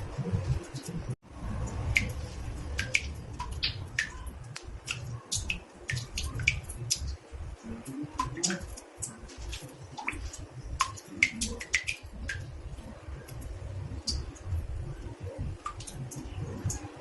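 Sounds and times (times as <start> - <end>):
steady low rumble: 0.0 - 17.0
water drops plinking into bathtub: 1.6 - 17.0.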